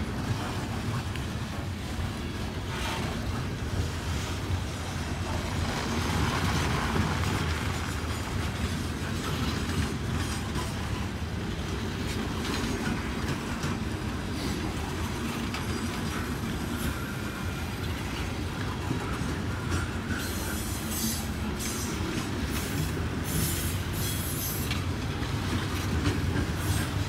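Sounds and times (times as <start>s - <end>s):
freight train rolling past: 0.0s - 27.0s
wheels clicking over rail joints: 0.0s - 27.0s.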